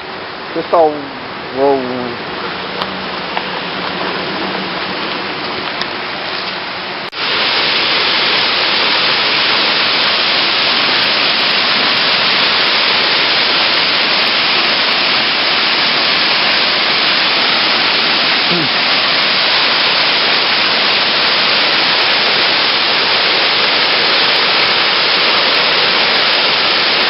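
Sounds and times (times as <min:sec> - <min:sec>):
rushing pouring water: 0:00.0 - 0:27.0.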